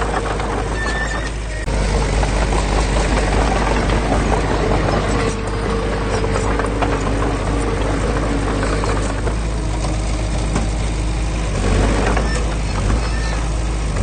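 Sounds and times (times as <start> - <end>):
constant whine: 0.0 - 14.0
diesel engine running: 0.0 - 14.0.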